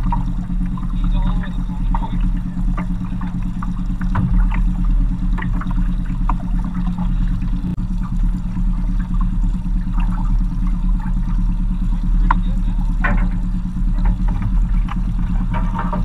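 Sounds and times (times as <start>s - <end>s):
outboard motor humming: 0.0s - 16.0s.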